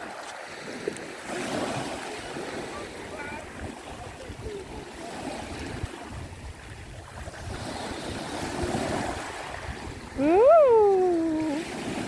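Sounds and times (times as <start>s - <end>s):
waves washing onto stony beach: 0.0s - 12.0s
wind buffeting microphone: 0.0s - 12.0s.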